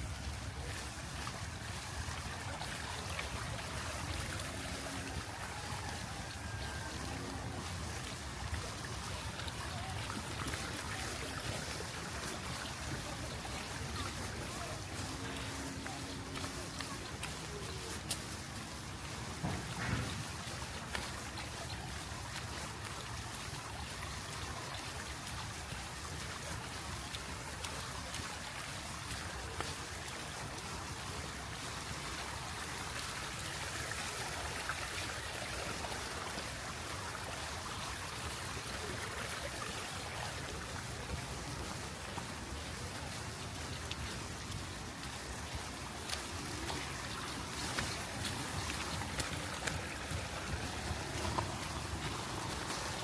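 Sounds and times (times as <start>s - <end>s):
steady rain: 0.0s - 53.0s
water trickling: 0.0s - 53.0s.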